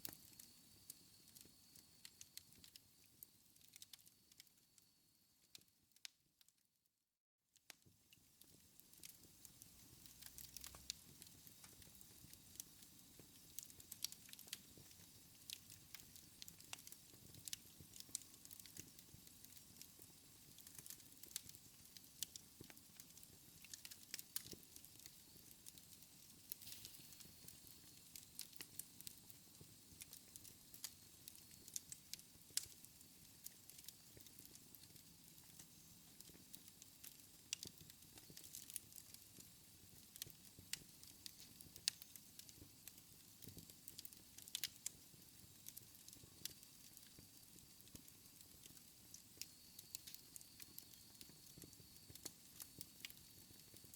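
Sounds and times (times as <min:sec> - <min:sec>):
wood fire crackling: 0:00.0 - 0:04.5, 0:07.6 - 0:53.9.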